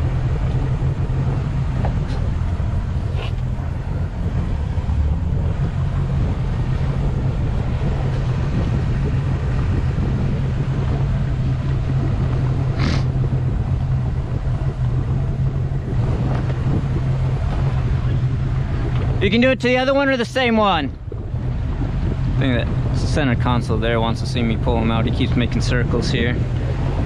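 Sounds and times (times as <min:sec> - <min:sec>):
boat engine humming: 0:00.0 - 0:27.0
wind on microphone: 0:00.0 - 0:27.0.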